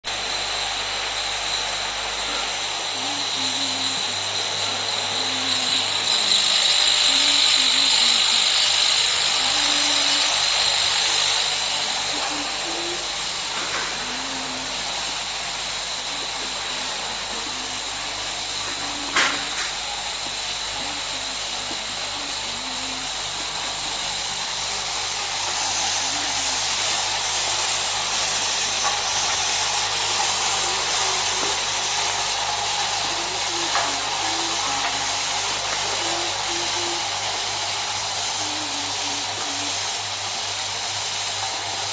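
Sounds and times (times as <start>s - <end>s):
machine whirring and hissing: 0.0s - 41.9s.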